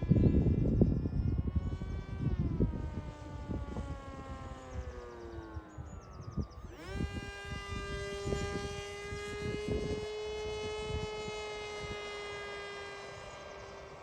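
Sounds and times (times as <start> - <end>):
electric model airplane motor whine: 0.0 - 14.0
wind buffeting microphone: 0.0 - 14.0.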